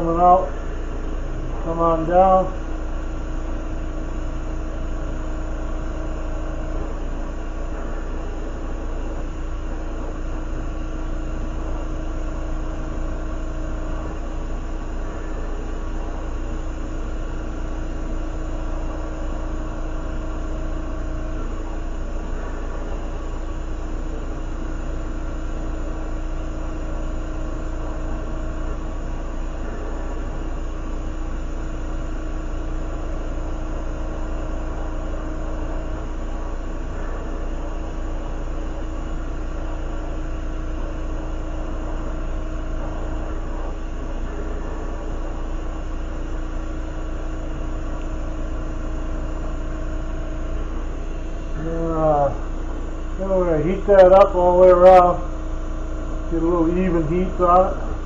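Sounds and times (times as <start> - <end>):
constant hum: 0.0 - 58.0.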